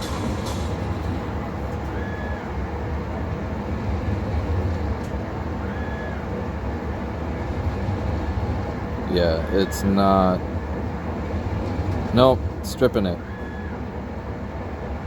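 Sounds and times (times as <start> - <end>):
lathe motor rumble: 0.0 - 15.0
rising and falling drive whine: 0.0 - 15.0.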